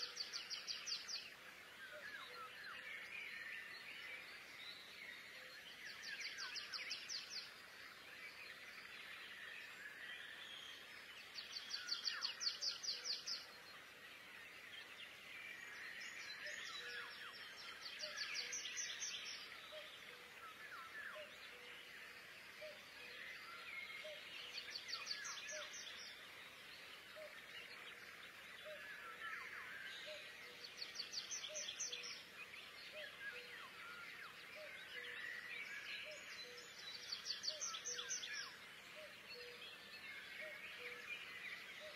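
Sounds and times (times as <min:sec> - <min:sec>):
soft bird chirps: 0:00.0 - 0:41.9.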